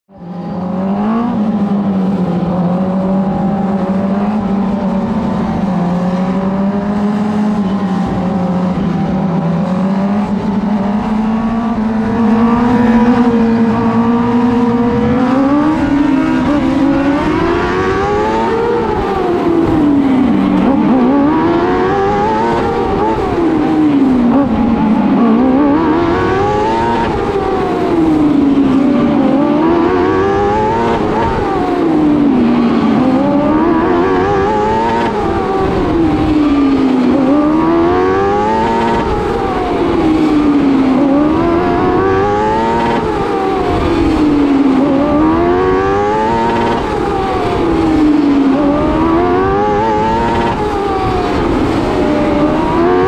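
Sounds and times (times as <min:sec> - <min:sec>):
race car engine running: 0:00.1 - 0:53.0.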